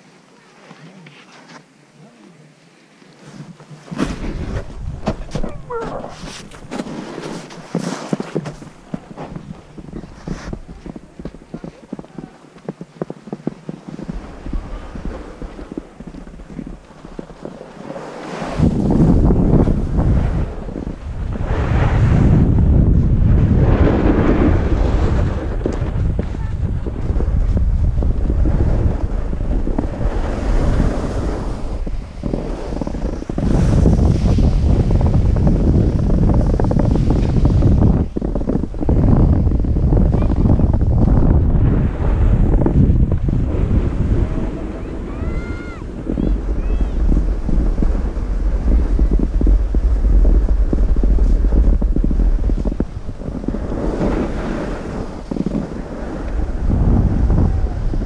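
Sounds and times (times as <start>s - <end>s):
wind buffeting microphone: 3.9s - 58.0s.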